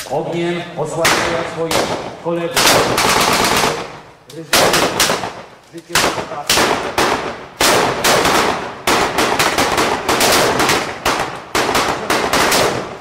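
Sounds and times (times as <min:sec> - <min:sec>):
gunfire with echo: 0:01.0 - 0:13.0.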